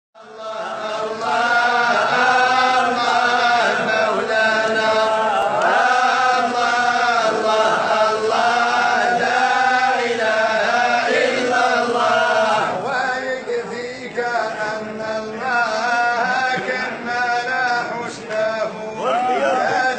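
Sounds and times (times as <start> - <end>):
chanted vocal music: 0.2 - 19.9.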